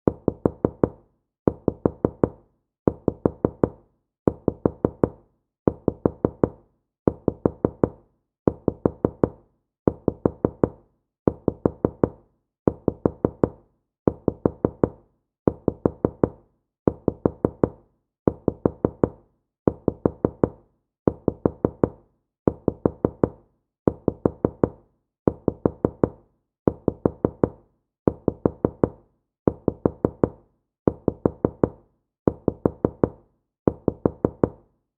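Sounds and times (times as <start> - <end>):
knocking on wooden door: 0.1 - 21.9, 22.5 - 23.3, 23.9 - 24.7, 25.3 - 26.1, 26.7 - 27.5, 28.1 - 28.9, 29.5 - 30.3, 30.9 - 31.7, 32.3 - 33.1, 33.7 - 34.6.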